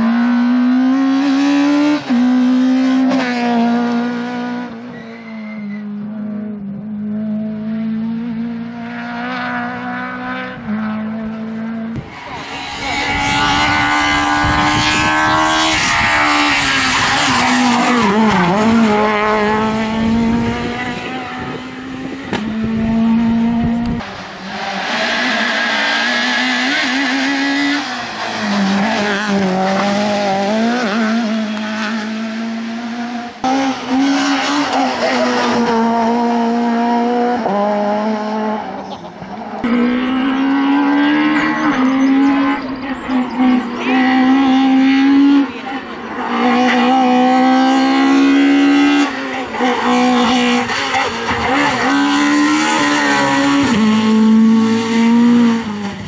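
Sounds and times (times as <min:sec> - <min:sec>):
rally car engines revving past: 0:00.0 - 0:56.0.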